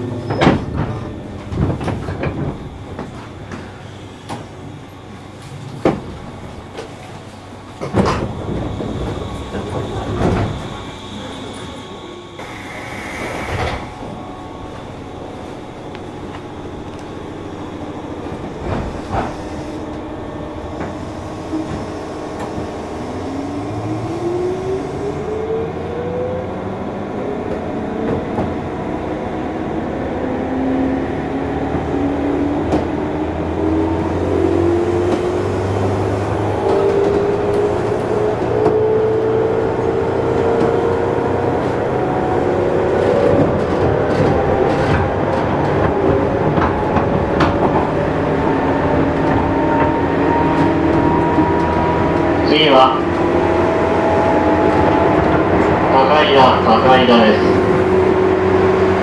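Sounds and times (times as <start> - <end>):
electric train motors whining: 0.0 - 59.0.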